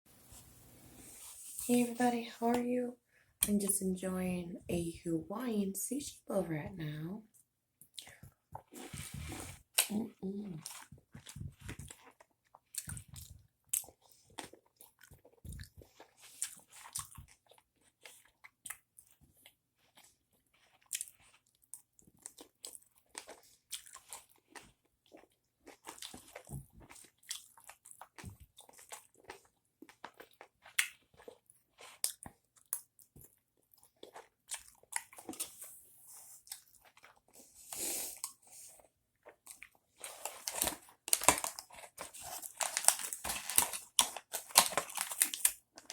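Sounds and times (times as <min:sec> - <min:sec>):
person chewing food: 0:07.3 - 0:45.9.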